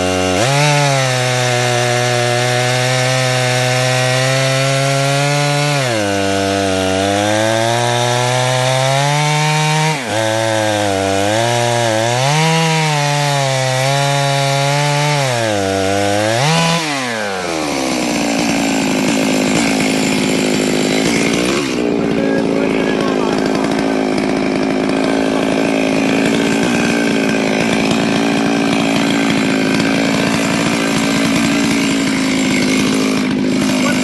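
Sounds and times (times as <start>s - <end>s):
chainsaw ripping a log: 0.0s - 34.0s.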